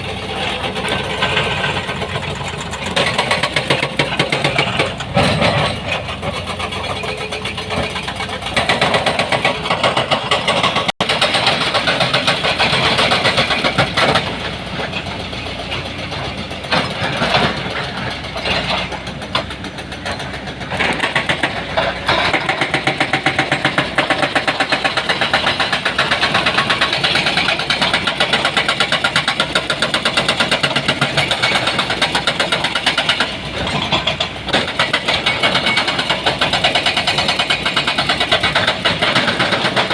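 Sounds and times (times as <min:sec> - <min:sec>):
heavy diesel engine pulsing: 0:00.0 - 0:39.9.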